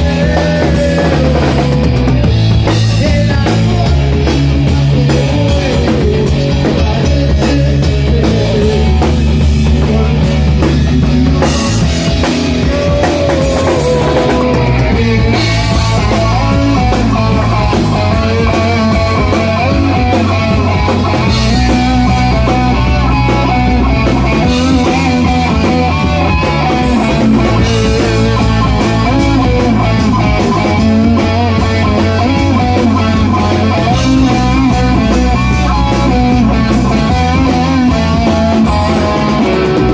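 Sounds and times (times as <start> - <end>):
bass line: 0.0 - 39.9
drum kit: 0.0 - 39.9
electric guitar: 0.0 - 39.9.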